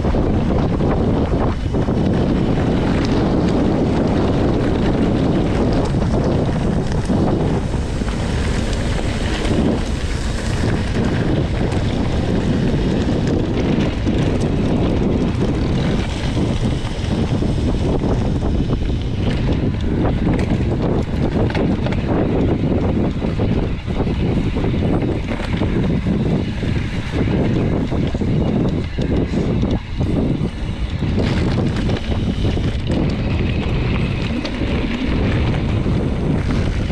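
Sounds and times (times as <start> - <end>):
tyres rumbling over gravel: 0.0 - 36.9
wind rushing over microphone: 0.0 - 36.9.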